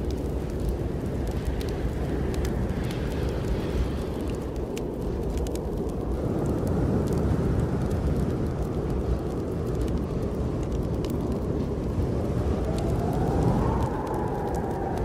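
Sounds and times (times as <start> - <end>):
snowstorm wind rushing: 0.0 - 15.0
wood fire crackling: 0.0 - 15.0.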